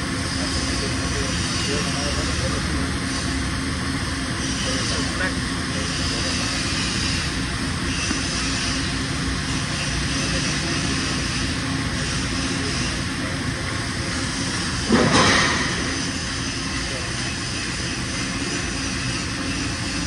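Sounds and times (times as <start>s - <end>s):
loud machine noise: 0.0s - 20.0s
mechanical drone: 0.0s - 20.0s.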